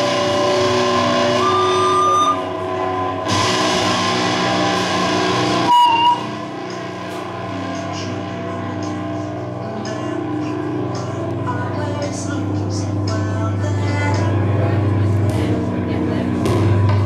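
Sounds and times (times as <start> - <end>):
guitar-like sound: 0.0 - 17.0.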